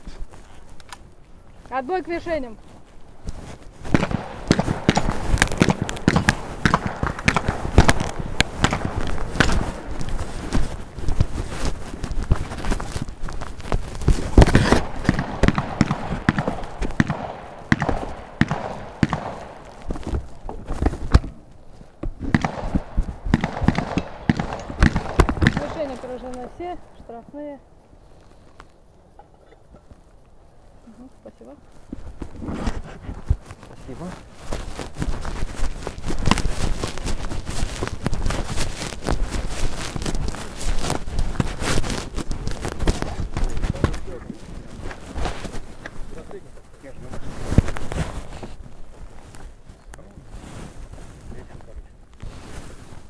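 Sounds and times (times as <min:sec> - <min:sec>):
footsteps on dry grass and dirt: 0:00.0 - 0:53.0.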